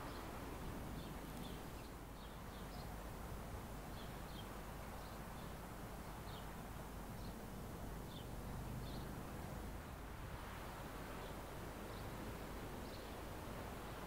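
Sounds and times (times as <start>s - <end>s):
small birds chirping: 0.0s - 3.2s, 3.8s - 10.0s, 11.1s - 14.0s
faint outdoor background noise: 0.0s - 14.0s.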